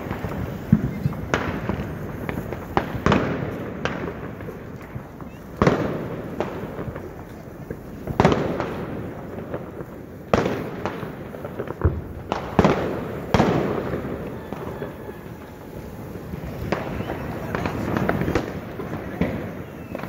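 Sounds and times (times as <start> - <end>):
fireworks bangs with echo: 0.0 - 20.0
smaller firework bangs: 0.0 - 20.0.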